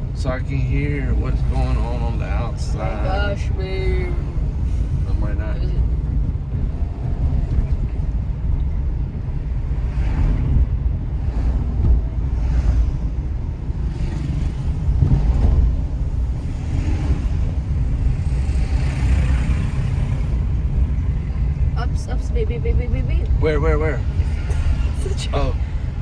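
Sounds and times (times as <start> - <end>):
moving car rumble: 0.0 - 26.0
street traffic: 0.0 - 26.0.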